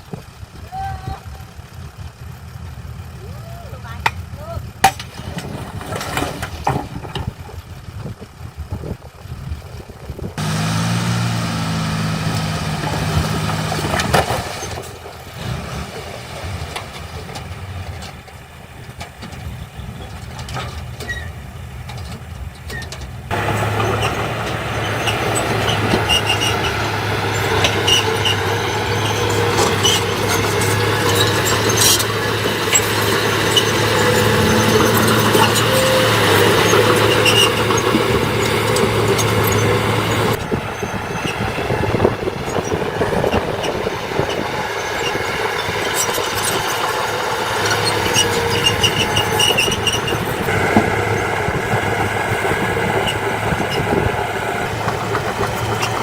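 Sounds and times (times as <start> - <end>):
heavy machinery diesel engines: 0.0 - 56.0
clanks and squeaks: 3.8 - 8.3, 12.1 - 56.0.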